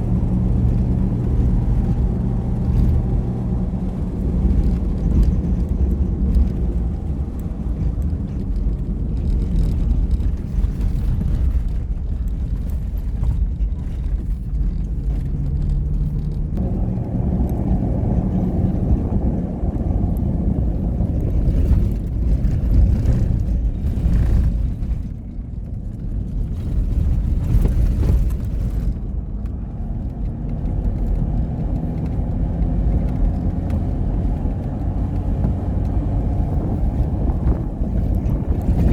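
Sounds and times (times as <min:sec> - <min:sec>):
vehicle engine rumbling: 0:00.0 - 0:38.9.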